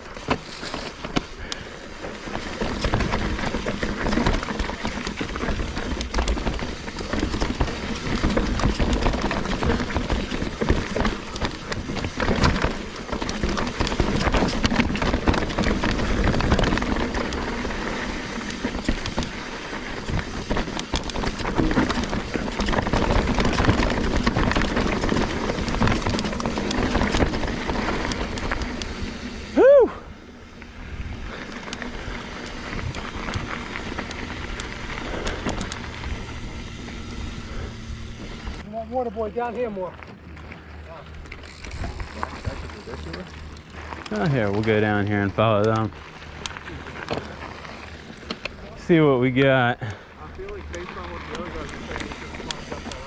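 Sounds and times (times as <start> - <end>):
bike rattling and knocking: 0.0 - 53.0
tyres crunching over dirt: 0.0 - 53.0.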